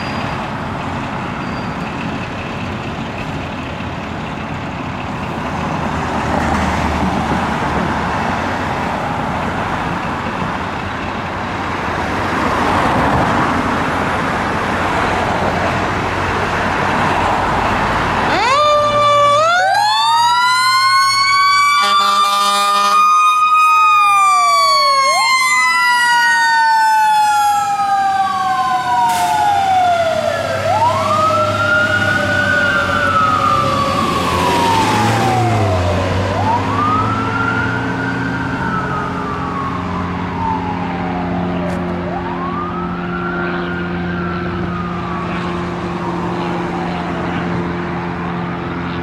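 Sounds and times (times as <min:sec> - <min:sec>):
fire engine siren wailing: 0:00.0 - 0:49.0
low truck drone: 0:00.0 - 0:49.0.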